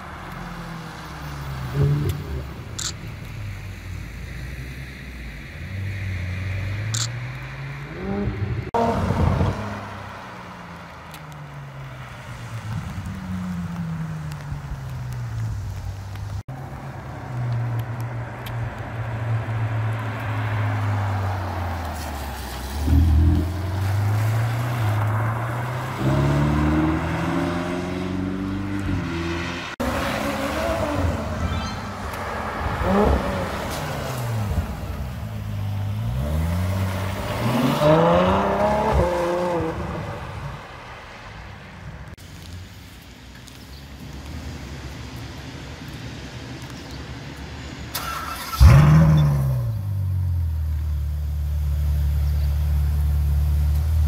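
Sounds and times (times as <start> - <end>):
car engines revving: 0.0 - 42.5, 47.9 - 54.0.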